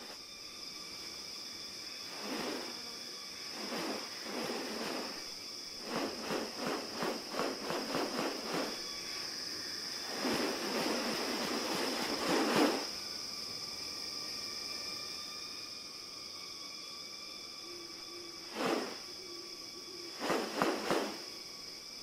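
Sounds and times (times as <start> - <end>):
insects high-pitched drone: 0.0 - 22.0.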